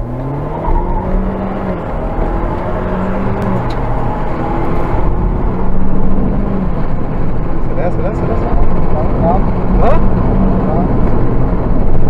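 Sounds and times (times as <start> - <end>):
car engine pulling hard: 0.0 - 12.0
road and wind noise: 0.0 - 12.0.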